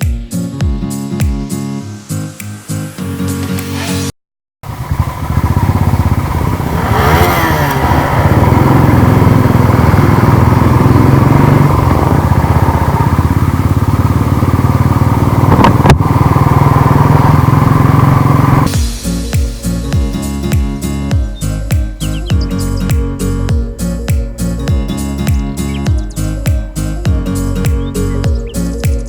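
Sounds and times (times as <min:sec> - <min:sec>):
motorcycle engine running: 0:04.6 - 0:29.0.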